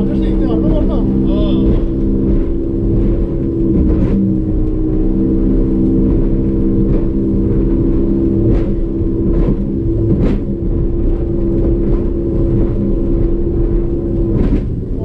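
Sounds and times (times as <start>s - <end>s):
outboard motor running hard: 0.0s - 15.0s.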